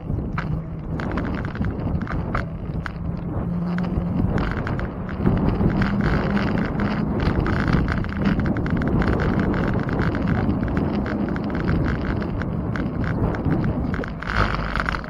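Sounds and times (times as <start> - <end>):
bicycle rattles and knocks: 0.0 - 15.0
bicycle tyre rumble: 0.0 - 15.0
wind: 0.0 - 15.0.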